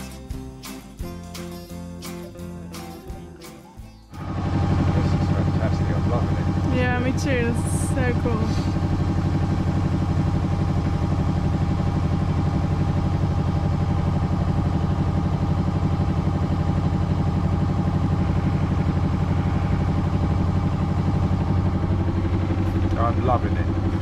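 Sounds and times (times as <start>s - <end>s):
boat engine chugging: 0.0s - 24.0s.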